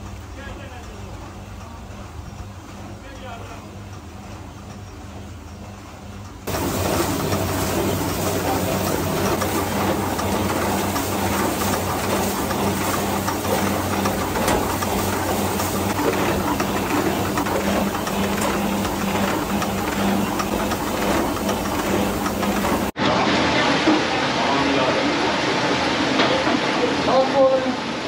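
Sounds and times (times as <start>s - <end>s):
machine humming and rattling: 0.0s - 28.0s.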